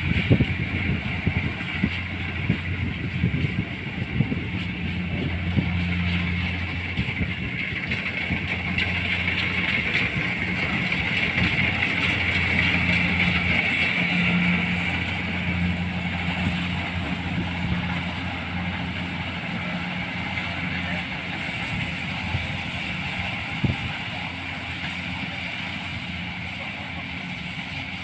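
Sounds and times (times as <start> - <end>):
combine harvester running: 0.0 - 28.0.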